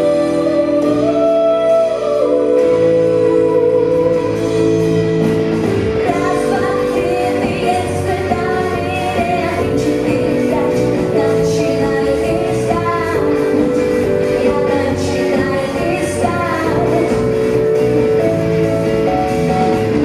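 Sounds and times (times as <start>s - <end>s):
woman singing: 0.0s - 18.3s
live band playing: 0.0s - 20.0s.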